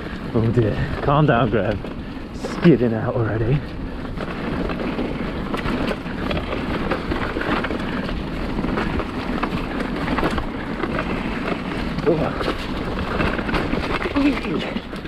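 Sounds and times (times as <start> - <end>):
bike tyres skidding on dirt: 0.0 - 15.0
bike clicking and knocking: 0.4 - 15.0.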